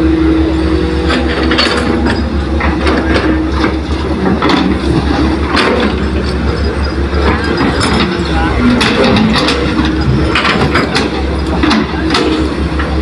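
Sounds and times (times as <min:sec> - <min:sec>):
diesel machinery drone: 0:00.0 - 0:13.0
metal clanks and knocks: 0:01.0 - 0:13.0.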